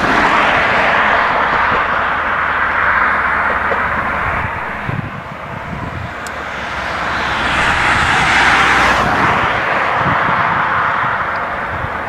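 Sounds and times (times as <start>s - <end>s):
falling sweep: 0.0s - 11.1s
train rushing rumble: 0.0s - 12.0s.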